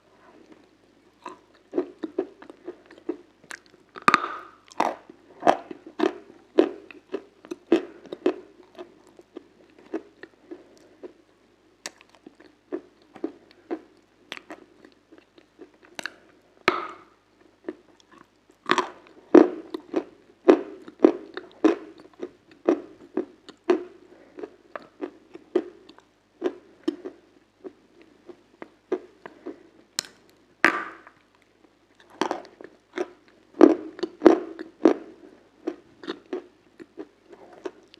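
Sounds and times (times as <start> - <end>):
chewing crunchy food: 0.2 - 37.9.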